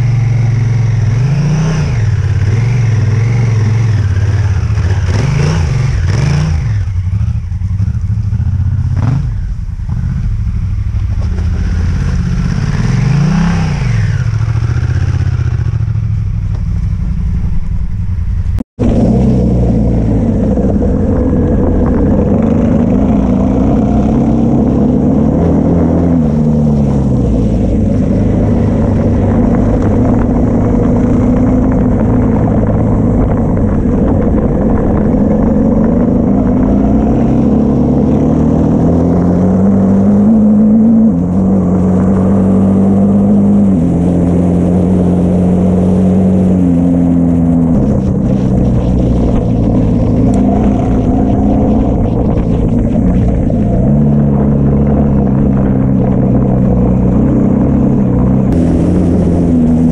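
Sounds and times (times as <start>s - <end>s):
motorcycle engine cruising: 0.0s - 59.9s
motorcycle engine revving: 0.0s - 59.9s.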